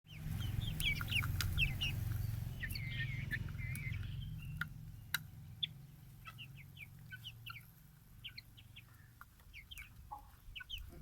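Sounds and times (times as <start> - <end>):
chickens chirping: 0.1 - 11.0.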